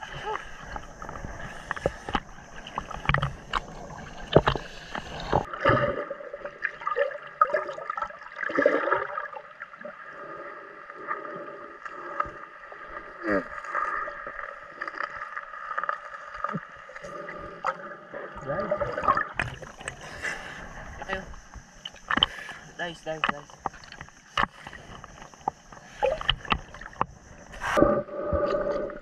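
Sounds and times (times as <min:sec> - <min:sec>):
clicks and knocks underwater: 0:00.0 - 0:10.0, 0:11.9 - 0:29.0
water slapping and splashing: 0:00.0 - 0:10.0, 0:11.9 - 0:27.9
underwater bubbling gurgles: 0:00.0 - 0:29.0.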